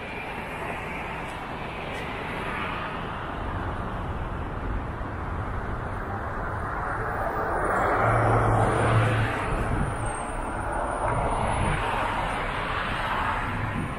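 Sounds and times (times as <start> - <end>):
street traffic: 0.0 - 13.9.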